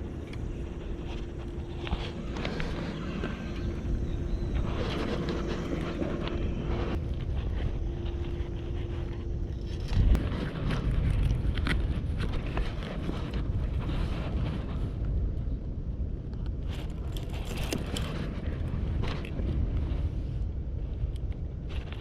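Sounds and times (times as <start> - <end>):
steady low rumble: 0.0 - 22.0
wind buffeting microphone: 0.0 - 22.0.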